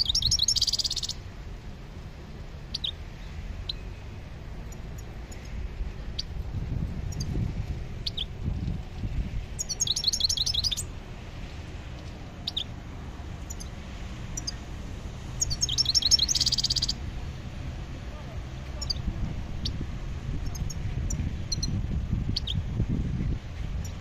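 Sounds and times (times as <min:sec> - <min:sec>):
songbirds chirping and twittering: 0:00.0 - 0:24.0.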